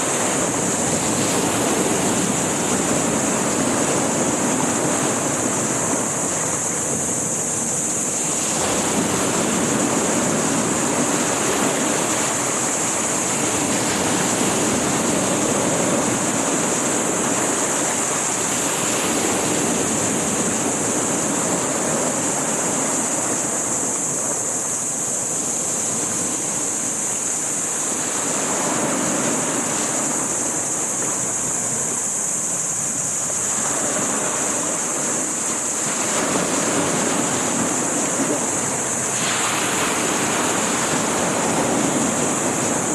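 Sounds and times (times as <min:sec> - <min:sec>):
constant high hiss: 0:00.0 - 0:42.9
sea surf rushing: 0:00.0 - 0:42.9
wind on microphone: 0:00.0 - 0:42.9.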